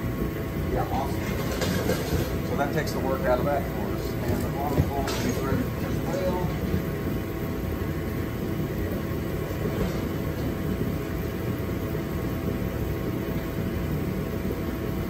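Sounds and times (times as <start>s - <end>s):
faint constant hum: 0.0s - 15.0s
heater low rumble: 0.0s - 15.0s.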